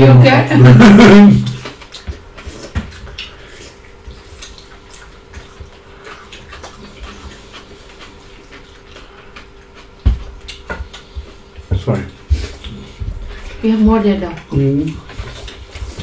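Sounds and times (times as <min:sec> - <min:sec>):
chewing and wet mouth sounds: 0:01.4 - 0:16.0.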